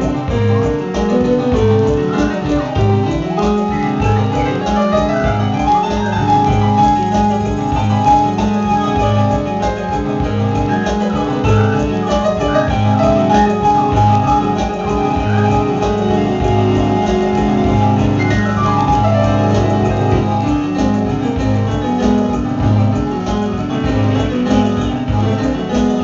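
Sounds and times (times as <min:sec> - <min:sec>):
live keyboard-led band music: 0:00.0 - 0:26.0.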